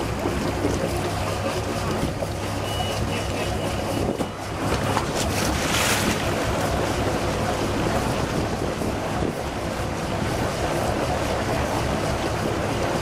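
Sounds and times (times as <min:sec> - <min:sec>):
diesel engines idling: 0:00.0 - 0:13.0
exhaust water splashing: 0:00.0 - 0:13.0.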